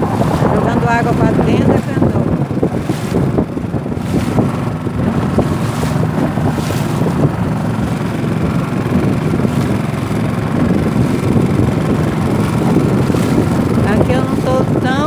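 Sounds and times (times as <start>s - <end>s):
outboard motor running: 0.0s - 15.0s
waves splashing against hull: 0.0s - 15.0s
wind buffeting microphone: 0.0s - 15.0s.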